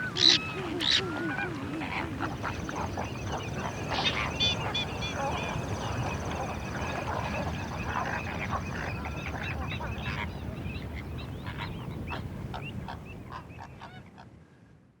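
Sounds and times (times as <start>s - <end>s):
flock of waterbirds calling: 0.0s - 14.3s.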